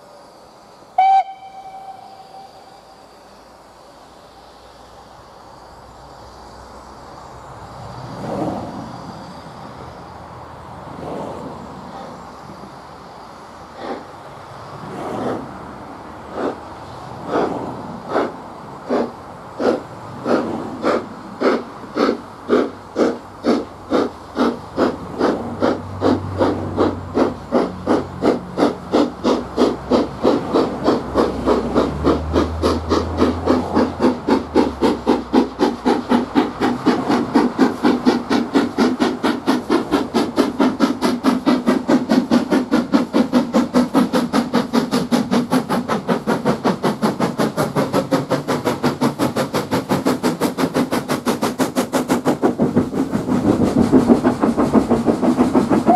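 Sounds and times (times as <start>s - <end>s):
steam hissing: 0.0s - 10.3s, 11.4s - 55.9s
steam locomotive exhaust beats: 0.0s - 10.6s, 11.6s - 55.9s.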